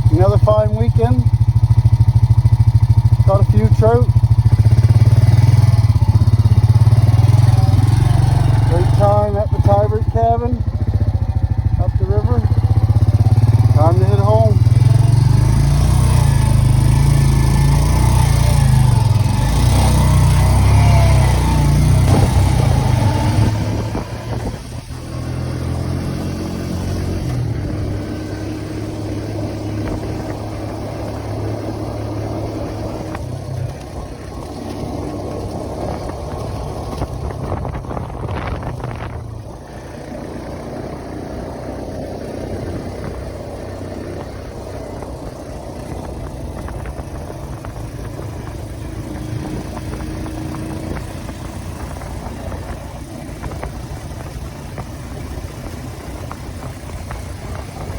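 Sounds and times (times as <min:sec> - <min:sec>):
vehicle engine on rough ground: 0:00.0 - 0:57.9.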